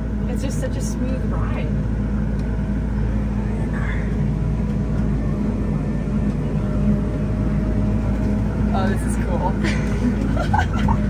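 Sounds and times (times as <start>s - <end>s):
tractor engine hum: 0.0s - 11.0s.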